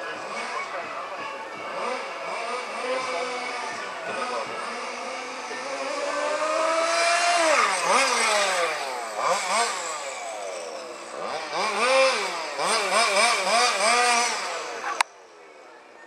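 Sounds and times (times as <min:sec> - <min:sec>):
high-revving small engine: 0:00.0 - 0:15.7.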